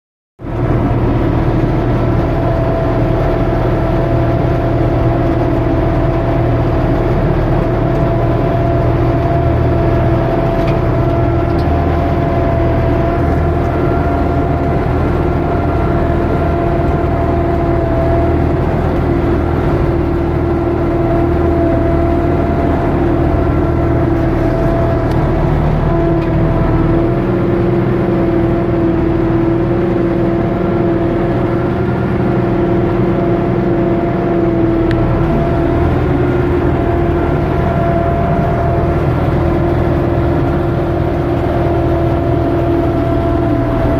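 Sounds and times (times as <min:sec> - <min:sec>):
tractor diesel engine under load: 0:00.4 - 0:43.9.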